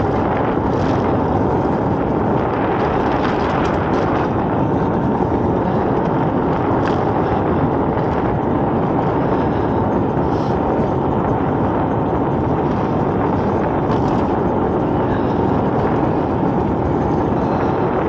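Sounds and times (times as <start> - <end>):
tyres rolling on asphalt: 0.0 - 18.0
wind over microphone: 0.0 - 18.0.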